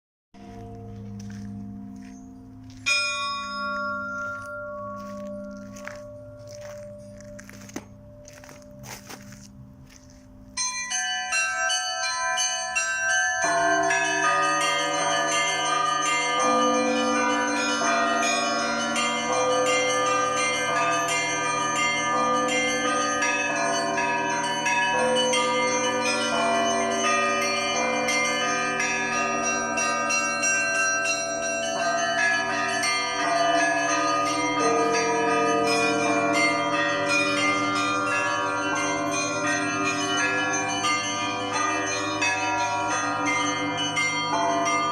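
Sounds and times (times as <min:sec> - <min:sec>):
lower heavier church bells: 0:00.4 - 0:44.9
small high church bells: 0:00.4 - 0:44.9.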